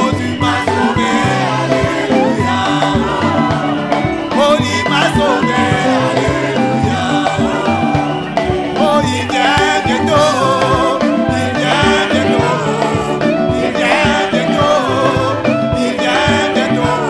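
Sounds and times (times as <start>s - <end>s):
congregation singing worship song: 0.0s - 17.0s
instrumental backing with beat: 0.0s - 17.0s
lead singer on microphone: 0.0s - 17.0s.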